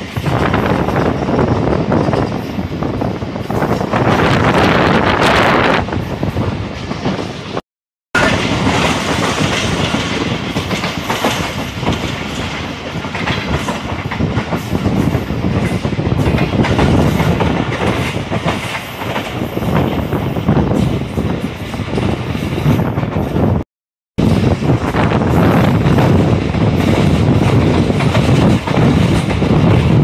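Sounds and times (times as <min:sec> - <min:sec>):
clickety-clack over rail joints: 0:00.0 - 0:07.6, 0:08.2 - 0:23.6, 0:24.2 - 0:30.0
train wheels rumbling on rails: 0:00.0 - 0:07.6, 0:08.2 - 0:23.6, 0:24.2 - 0:30.0.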